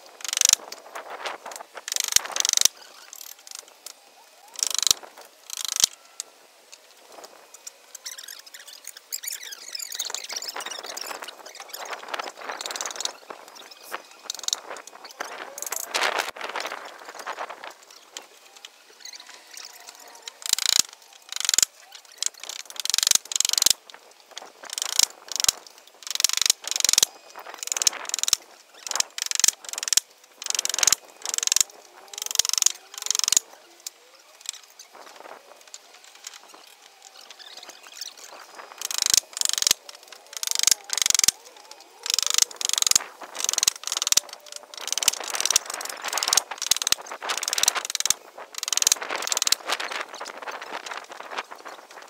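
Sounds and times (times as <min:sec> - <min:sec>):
short squeaks: 0:07.2 - 0:52.0.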